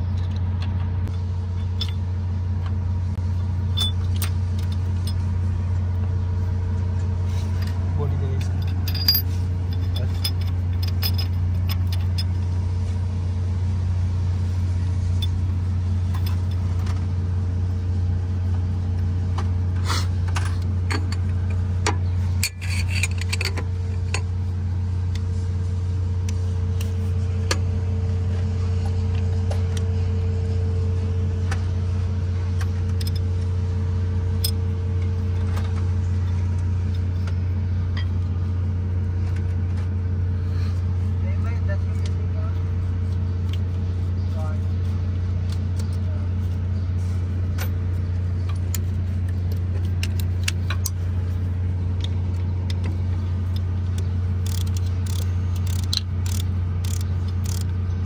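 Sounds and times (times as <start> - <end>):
machinery hum: 0.0 - 58.0.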